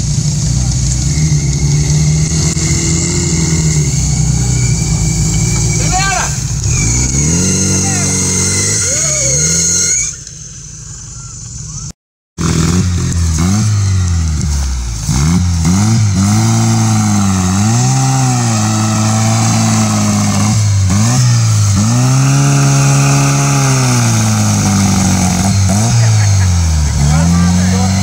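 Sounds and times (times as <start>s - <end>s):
buggy engine revving hard: 0.0s - 28.0s.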